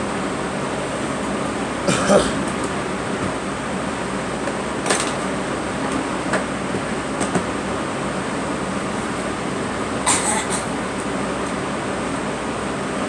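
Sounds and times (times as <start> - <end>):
steady mechanical background noise: 0.0 - 13.0.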